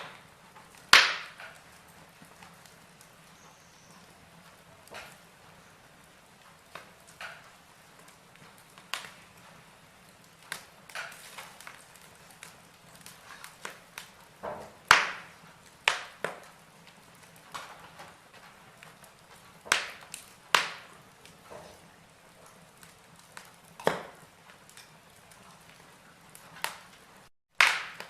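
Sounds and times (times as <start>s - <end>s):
logs crackling in fireplace: 0.0s - 28.0s.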